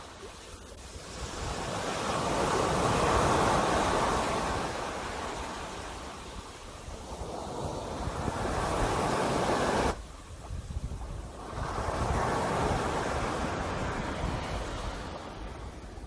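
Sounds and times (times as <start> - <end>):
sea waves surging onto shore: 0.0 - 16.0.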